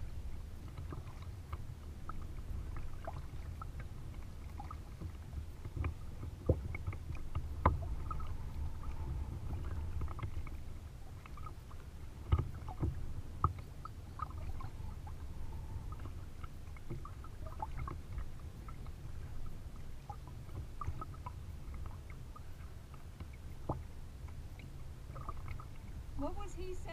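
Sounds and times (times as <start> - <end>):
paddle splashing in water: 0.0 - 26.9
water rumbling against hull: 0.0 - 26.9.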